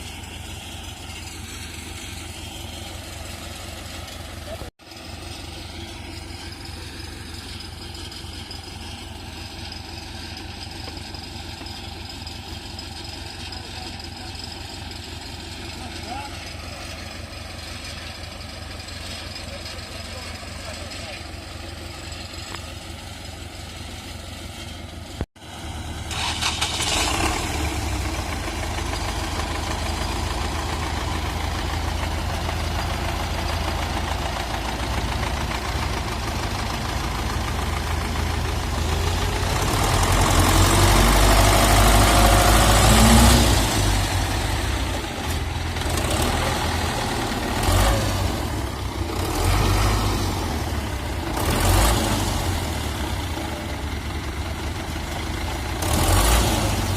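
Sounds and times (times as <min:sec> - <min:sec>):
tractor engine revving: 0:00.0 - 0:56.9.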